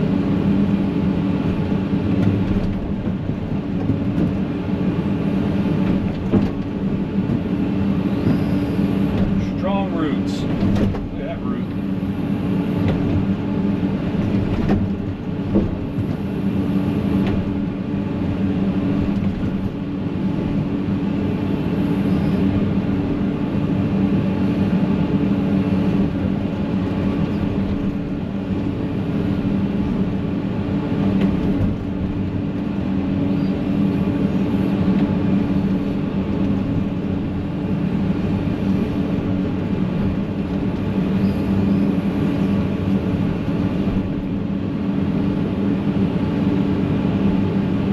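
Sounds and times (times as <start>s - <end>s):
excavator diesel engine under load: 0.0s - 47.9s.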